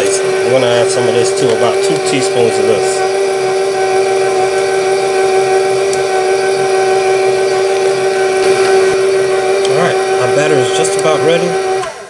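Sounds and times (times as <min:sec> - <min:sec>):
electric mixer motor whine: 0:00.0 - 0:12.0.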